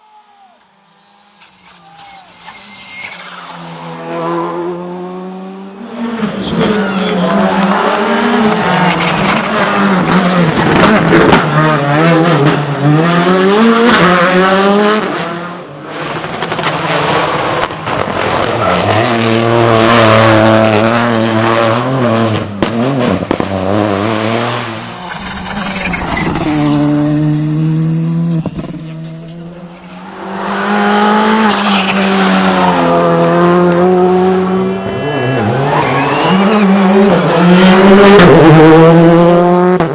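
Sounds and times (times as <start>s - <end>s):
rally car engines revving: 0.7s - 39.9s.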